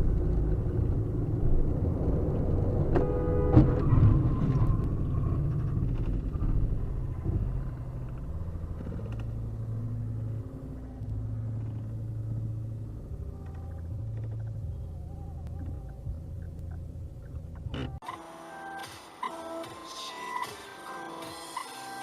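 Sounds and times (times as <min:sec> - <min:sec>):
road vehicle rumbling: 0:00.0 - 0:18.1.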